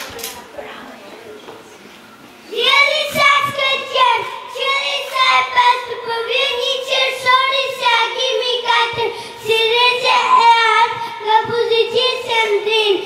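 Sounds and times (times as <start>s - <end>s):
child singing: 2.5s - 13.0s.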